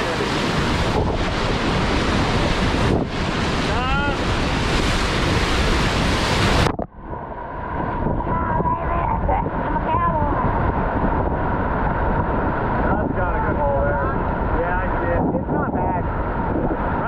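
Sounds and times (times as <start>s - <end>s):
rushing whitewater: 0.0s - 17.0s
wind buffeting microphone: 0.0s - 17.0s.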